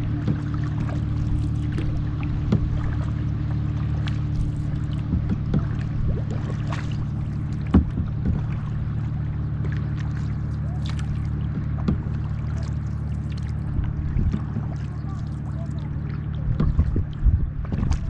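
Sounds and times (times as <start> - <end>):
knocks on hull: 0.0 - 13.0, 13.6 - 18.0
low machine hum: 0.0 - 18.0
water lapping against hull: 0.0 - 18.0.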